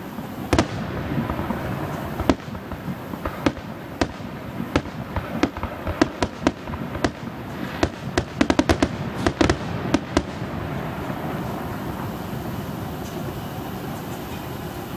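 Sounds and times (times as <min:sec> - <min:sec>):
fireworks bangs and cracks: 0:00.0 - 0:14.9
steady background noise: 0:00.0 - 0:14.9.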